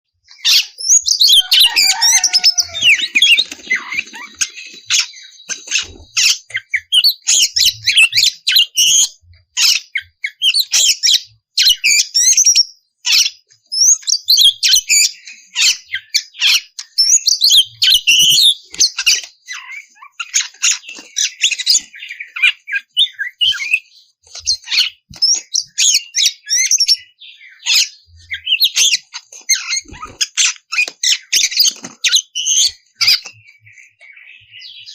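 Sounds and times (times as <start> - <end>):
bird singing whistles and chatter: 0.3 - 34.9.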